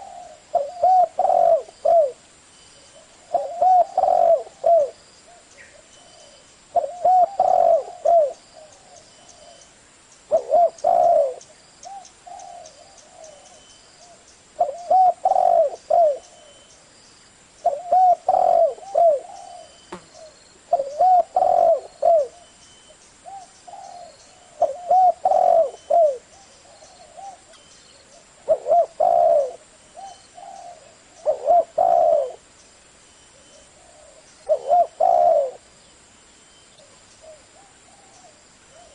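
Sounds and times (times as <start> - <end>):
dove cooing: 0.0 - 2.2, 2.8 - 9.6, 10.3 - 16.7, 17.6 - 22.6, 23.2 - 32.5, 33.3 - 35.7, 36.7 - 38.9.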